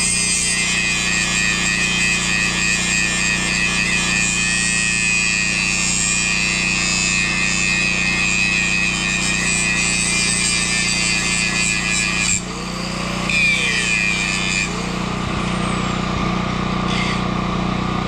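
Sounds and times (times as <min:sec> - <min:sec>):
metalworking grinding noise: 0:00.0 - 0:18.0.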